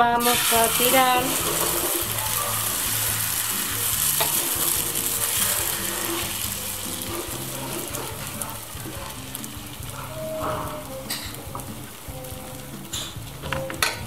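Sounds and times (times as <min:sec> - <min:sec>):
batter sizzling in a frying pan: 0:00.0 - 0:14.0
metal spoon in a pan: 0:00.2 - 0:14.0.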